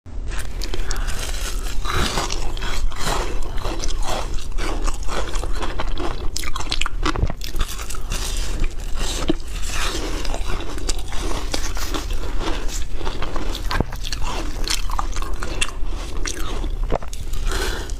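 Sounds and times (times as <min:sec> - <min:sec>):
ice crunching between teeth: 0:00.3 - 0:17.9.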